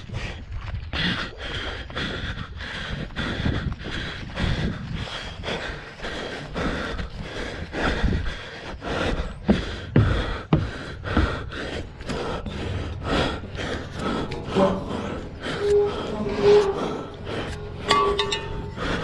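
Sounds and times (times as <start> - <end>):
heavy rapid breathing: 0.0 - 19.0.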